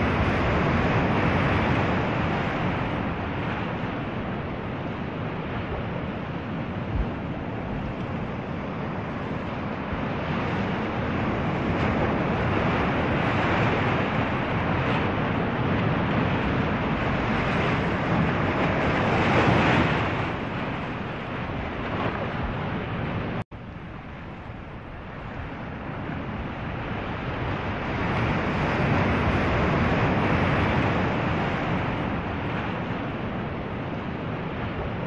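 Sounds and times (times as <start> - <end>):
ocean waves: 0.0 - 35.0
wind: 0.0 - 35.0.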